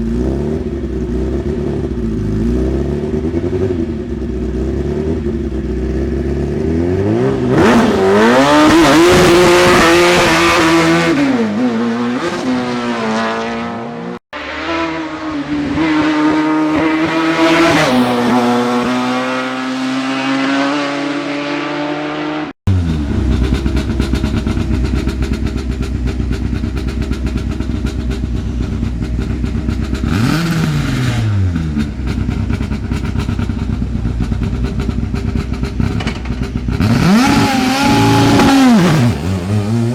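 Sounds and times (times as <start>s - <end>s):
lower steady engine revving: 0.0s - 39.9s
racing car engines at full throttle: 0.0s - 39.9s.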